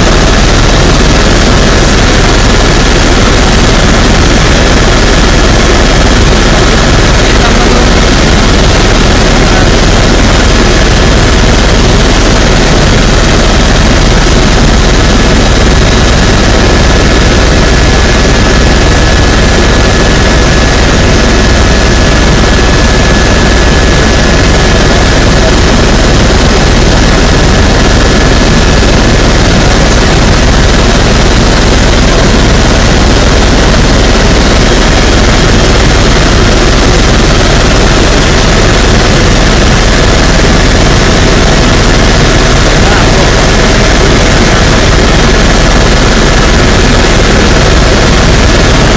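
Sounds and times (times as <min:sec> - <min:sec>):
helicopter engine and rotor drone: 0:00.0 - 0:48.9.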